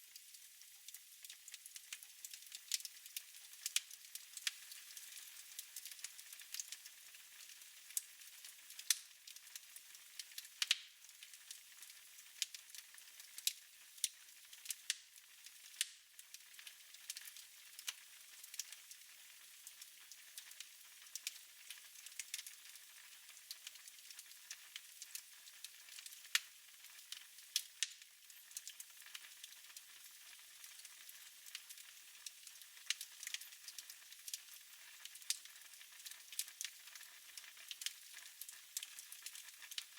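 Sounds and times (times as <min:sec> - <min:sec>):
soft steady hiss: 0:00.0 - 0:39.9
fire crackling and popping: 0:00.2 - 0:39.9.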